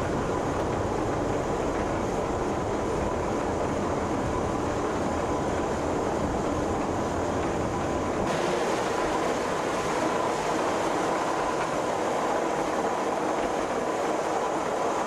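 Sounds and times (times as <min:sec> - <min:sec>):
train rail rumble and rattle: 0:00.0 - 0:15.0.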